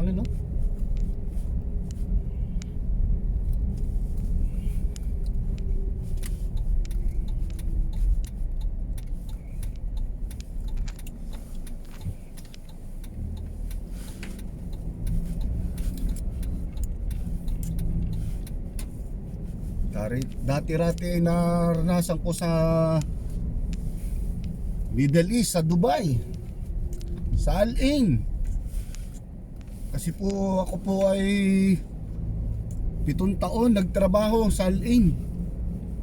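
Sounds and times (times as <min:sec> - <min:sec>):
light clicks and rattles: 0:00.0 - 0:36.0
road and wind noise: 0:00.0 - 0:36.0.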